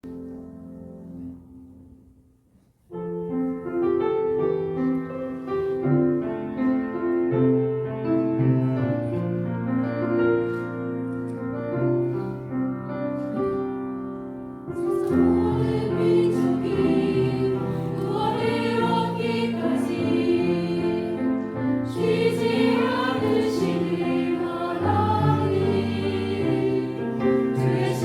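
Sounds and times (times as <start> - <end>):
piano playing hymn: 0.0 - 28.0.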